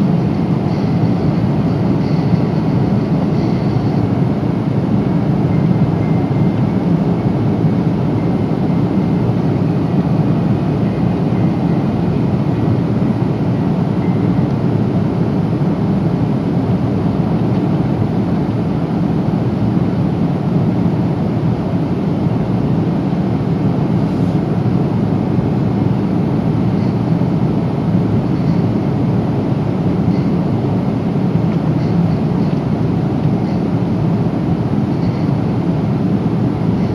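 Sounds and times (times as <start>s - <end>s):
airplane cabin engine rush: 0.0s - 36.9s.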